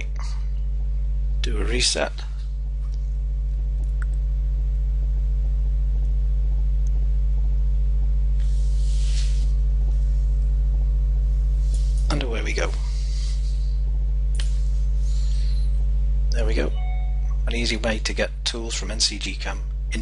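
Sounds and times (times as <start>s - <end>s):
mains hum: 0.0s - 20.0s.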